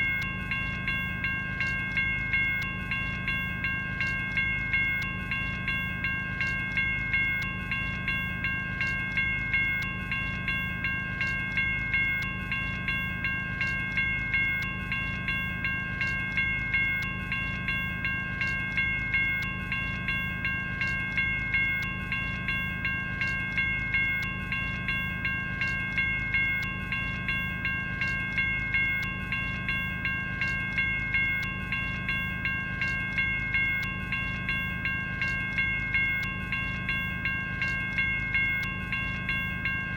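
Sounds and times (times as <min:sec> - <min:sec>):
railroad crossing bell ringing: 0:00.0 - 0:39.9.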